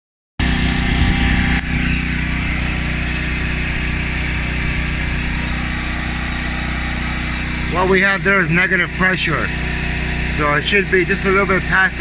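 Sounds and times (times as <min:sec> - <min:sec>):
motor hum: 0:00.4 - 0:12.0.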